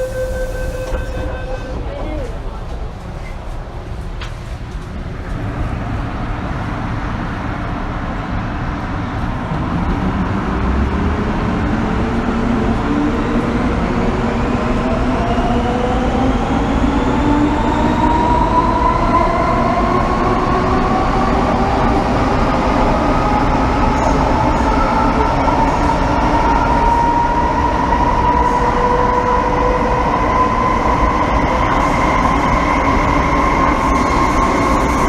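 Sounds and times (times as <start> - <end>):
train wheels rumbling: 0.0 - 35.0.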